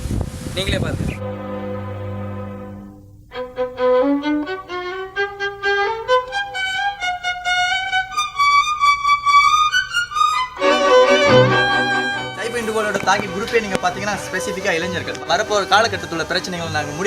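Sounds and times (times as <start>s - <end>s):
violin melody: 1.1s - 17.0s.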